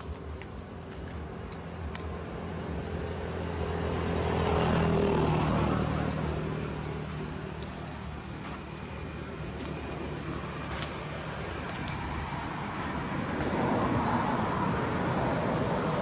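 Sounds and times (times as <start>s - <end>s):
vehicle passing by: 2.4s - 16.0s.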